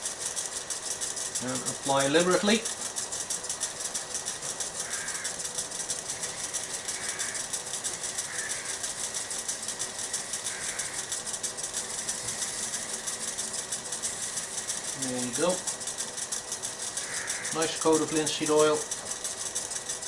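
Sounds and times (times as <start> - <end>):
rhythmic rustle of rubbing: 0.0 - 20.0
wood lathe running: 0.0 - 20.0.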